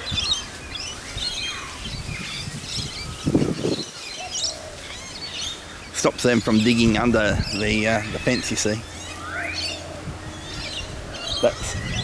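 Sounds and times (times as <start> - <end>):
wild birds chirping: 0.0 - 12.0.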